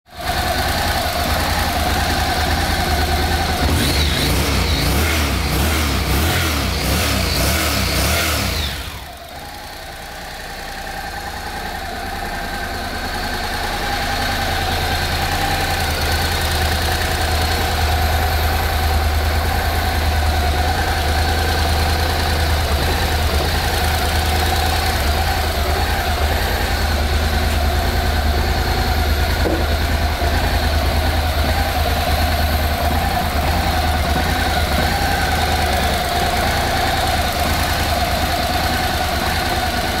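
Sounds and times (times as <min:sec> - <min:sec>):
motorcycle engine idling: 0:00.1 - 0:40.0.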